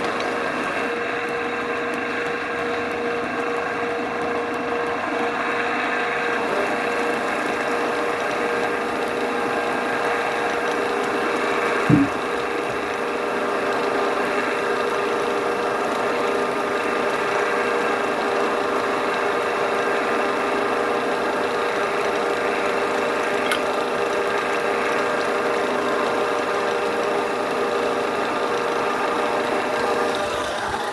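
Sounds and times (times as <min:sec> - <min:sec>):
wood lathe humming: 0:00.0 - 0:30.9.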